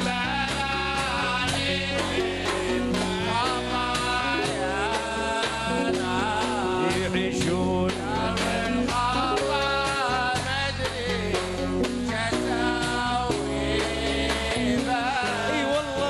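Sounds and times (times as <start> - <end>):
song with singing voice: 0.0 - 16.0
steady regular beat: 0.0 - 16.0.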